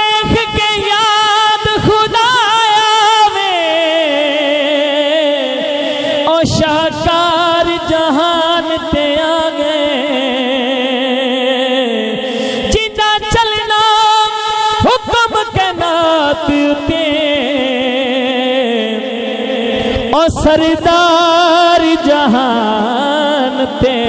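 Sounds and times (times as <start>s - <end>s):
man singing through loudspeakers: 0.0s - 24.0s.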